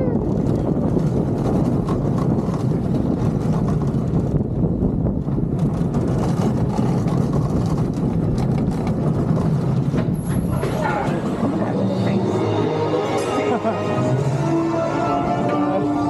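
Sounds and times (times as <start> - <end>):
roller coaster rumbling on track: 0.0 - 16.0.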